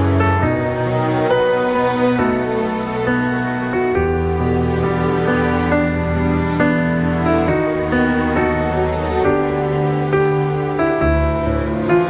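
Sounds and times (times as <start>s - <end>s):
slow solo piano piece: 0.0s - 12.0s.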